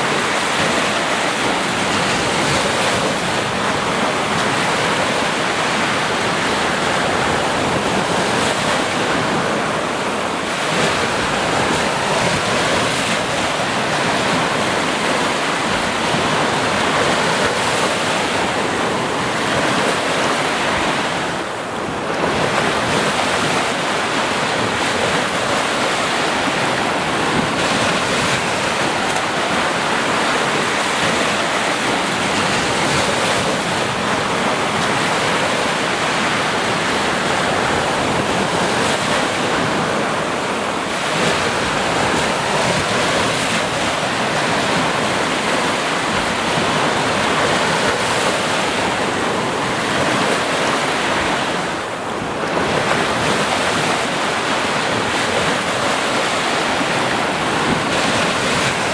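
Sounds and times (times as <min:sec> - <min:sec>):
sea waves washing onto beach: 0:00.0 - 0:58.9.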